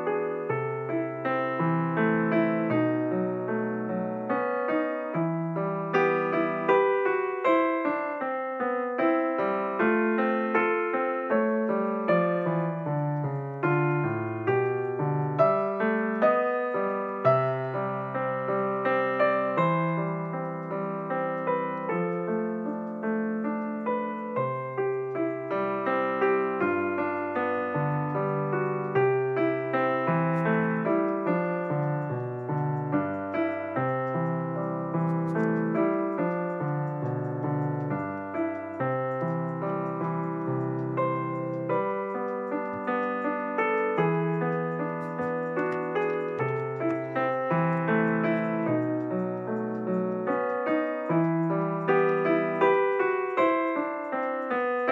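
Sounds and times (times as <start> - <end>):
gentle piano music: 0.0 - 54.9.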